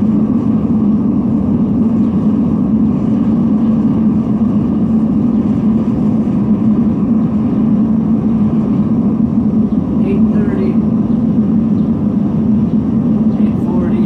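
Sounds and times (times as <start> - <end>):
furnace burner roaring: 0.0 - 14.0.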